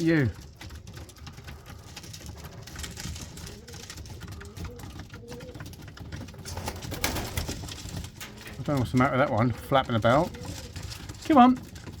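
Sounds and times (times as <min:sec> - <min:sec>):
pigeons cooing: 0:00.0 - 0:12.0
small knocks and rustles: 0:00.0 - 0:12.0.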